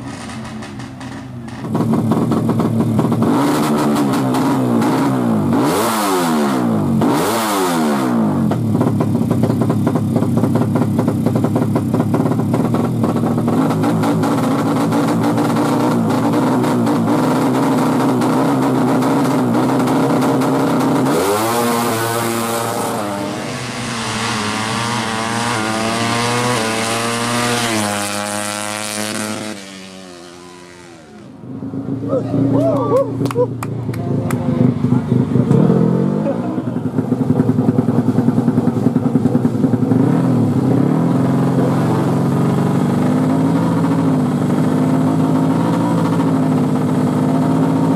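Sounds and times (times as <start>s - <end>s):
motorcycle engine revving: 0.0s - 32.8s, 33.6s - 47.9s.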